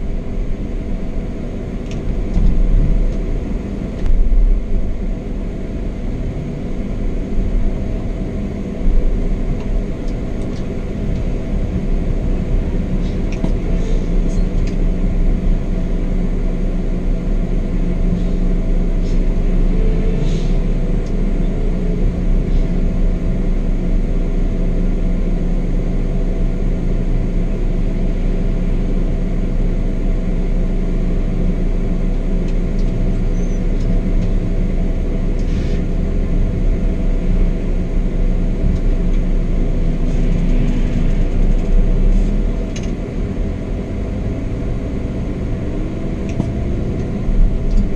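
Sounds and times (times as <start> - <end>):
coach engine drone: 0.0 - 47.9
road noise: 0.0 - 47.9.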